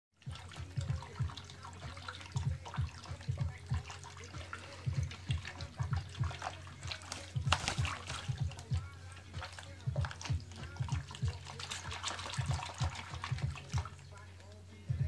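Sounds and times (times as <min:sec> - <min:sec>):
water splashing in basin: 0:00.2 - 0:14.6
parrot flapping into water: 0:00.3 - 0:14.0.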